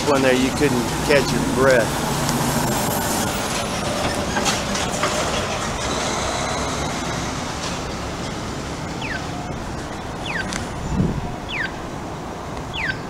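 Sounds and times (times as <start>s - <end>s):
loud traffic rumble: 0.0s - 13.0s.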